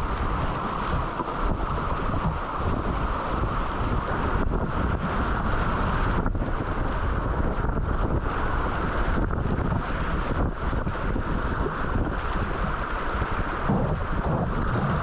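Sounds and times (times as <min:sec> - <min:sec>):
river running over rocks: 0:00.0 - 0:15.0
wind on microphone: 0:00.0 - 0:15.0.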